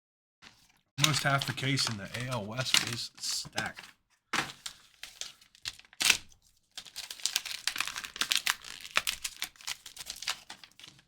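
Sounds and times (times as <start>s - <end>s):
crinkling plastic packaging: 0.4s - 11.0s.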